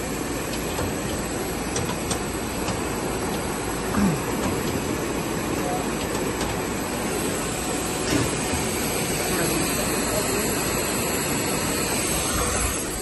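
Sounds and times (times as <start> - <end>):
extrusion machinery humming: 0.0 - 13.0.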